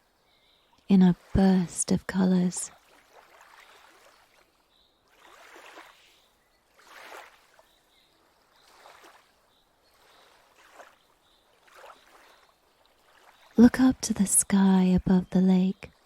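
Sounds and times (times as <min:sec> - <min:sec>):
water lapping gently: 0:00.0 - 0:16.0.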